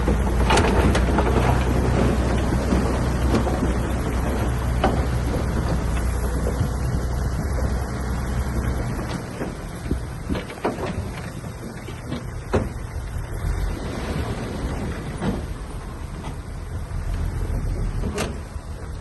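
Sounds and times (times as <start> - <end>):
bulldozer diesel engine rumble: 0.0 - 19.0.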